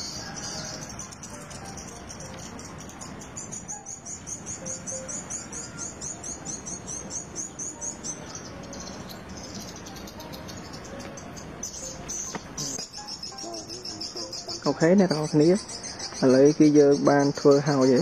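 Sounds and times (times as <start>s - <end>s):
insect chirping high and fast: 0.0s - 18.0s
outdoor ambience: 0.0s - 18.0s.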